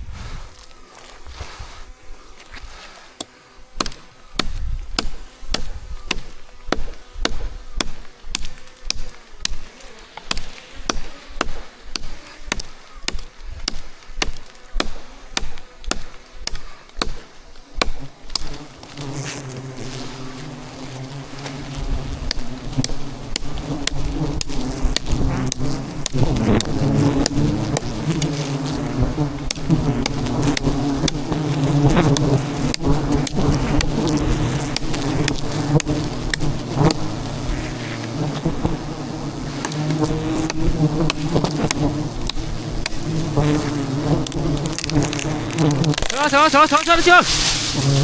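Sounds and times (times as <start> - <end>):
bees buzzing loudly: 0.0 - 48.0.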